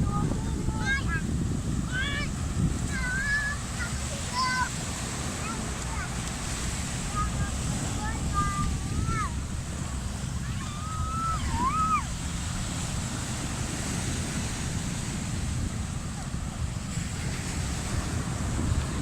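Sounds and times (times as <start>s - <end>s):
ocean surf washing: 0.0s - 19.0s
wind rumbling on microphone: 0.0s - 19.0s.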